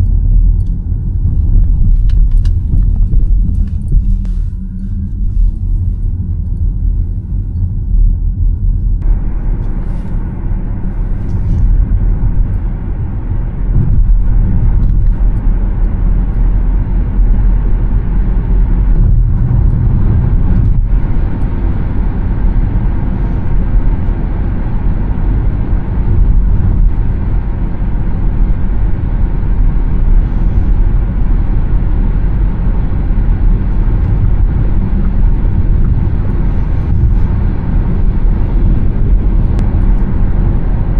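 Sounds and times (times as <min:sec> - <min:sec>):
car tyre and wind noise: 0:00.0 - 0:40.9.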